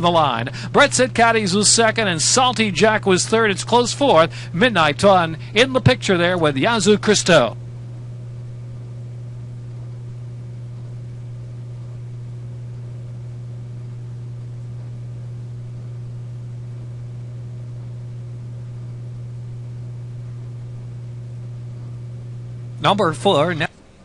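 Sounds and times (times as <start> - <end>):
constant hiss: 0.0 - 24.0
low electrical hum: 0.0 - 24.0.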